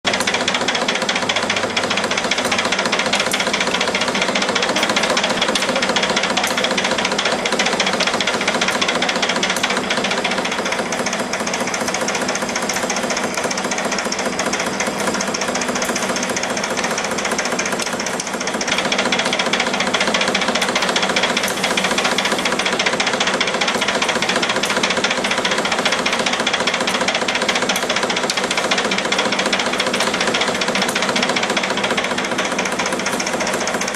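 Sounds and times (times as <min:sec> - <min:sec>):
spring coiling machine clatter: 0:00.1 - 0:33.9.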